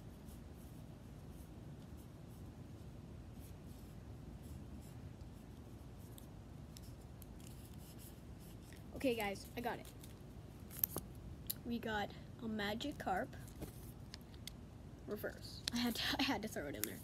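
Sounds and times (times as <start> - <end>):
low steady background hum: 0.0 - 17.0.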